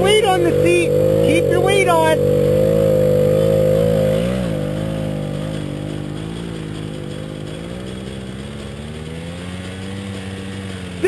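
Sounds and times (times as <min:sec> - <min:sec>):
two-stroke motorbike engine: 0:00.0 - 0:11.0.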